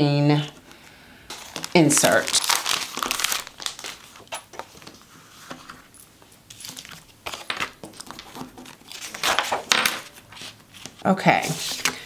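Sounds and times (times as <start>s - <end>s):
paper rustling: 0.5s - 12.0s.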